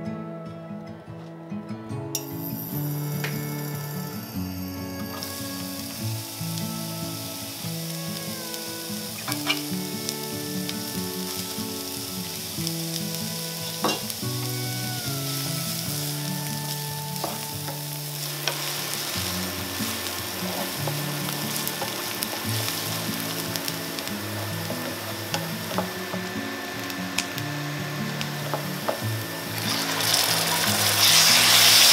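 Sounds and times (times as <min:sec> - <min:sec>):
onion sizzling in hot oil: 0:02.2 - 0:31.9.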